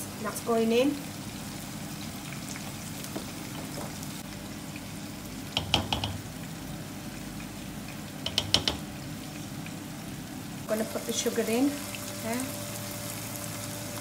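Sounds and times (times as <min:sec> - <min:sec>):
butter sizzling in a pot: 0:00.1 - 0:14.0.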